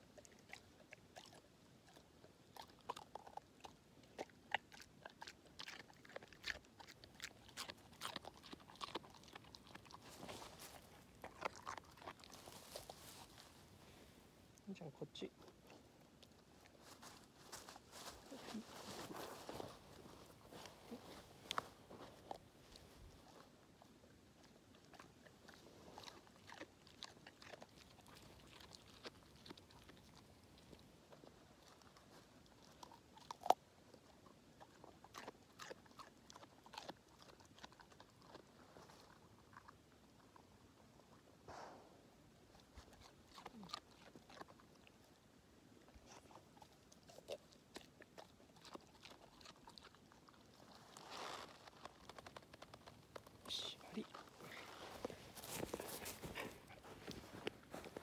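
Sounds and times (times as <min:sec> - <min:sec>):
dog crunching carrot: 0:00.0 - 0:13.6, 0:14.5 - 0:58.0.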